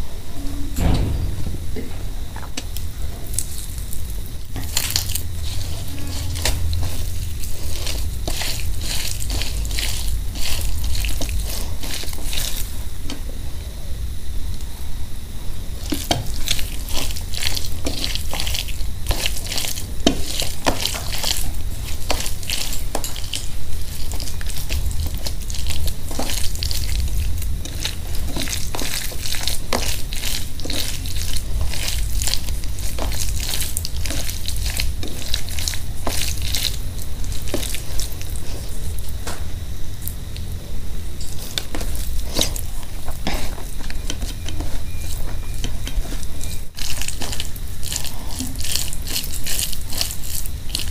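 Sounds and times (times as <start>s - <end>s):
hand mashing food wet squishing: 2.5s - 13.2s, 15.7s - 39.3s, 41.2s - 50.9s.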